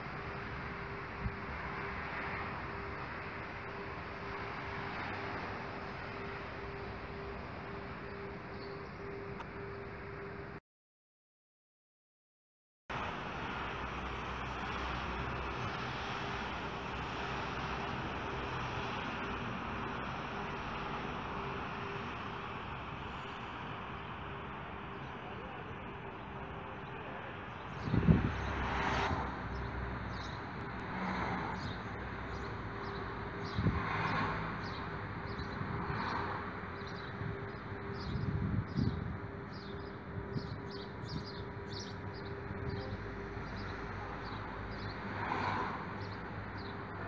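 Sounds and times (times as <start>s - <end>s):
distant traffic: 0.0s - 10.6s, 12.9s - 47.0s.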